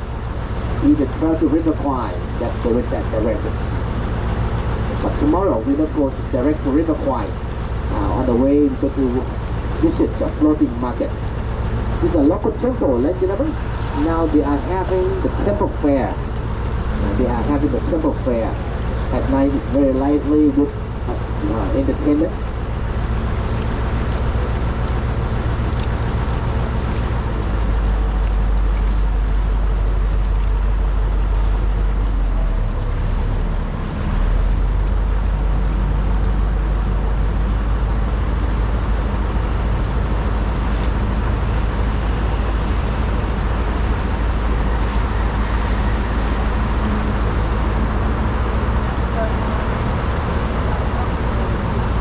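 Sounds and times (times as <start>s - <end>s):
boat engine droning: 0.0s - 52.0s
water wash: 0.0s - 52.0s.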